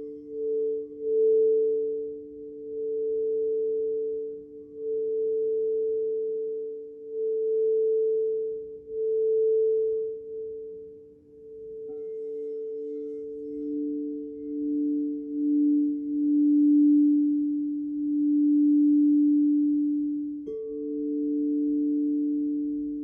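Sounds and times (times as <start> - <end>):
crystal singing bowls ringing: 0.0 - 23.0.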